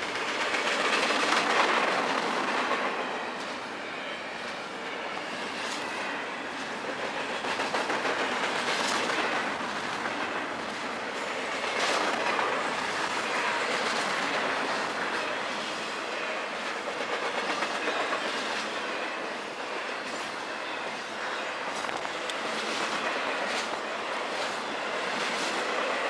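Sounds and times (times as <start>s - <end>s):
steel wheels rumbling on rail: 0.0s - 26.0s.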